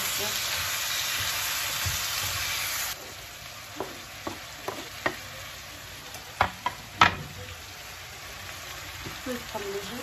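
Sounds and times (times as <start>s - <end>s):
vegetables and meat sizzling in pan: 0.0s - 10.0s.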